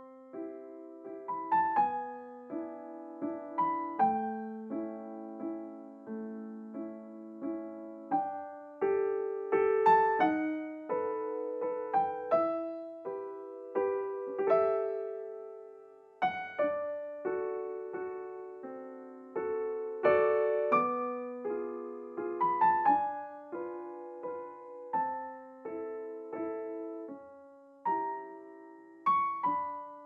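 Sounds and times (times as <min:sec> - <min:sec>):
slow gentle piano music: 0:00.0 - 0:30.0.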